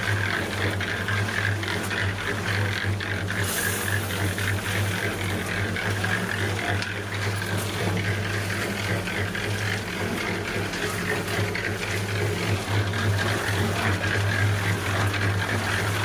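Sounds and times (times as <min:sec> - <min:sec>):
concrete mixer motor hum: 0:00.0 - 0:16.0
drum rattling and clicking: 0:00.0 - 0:16.0.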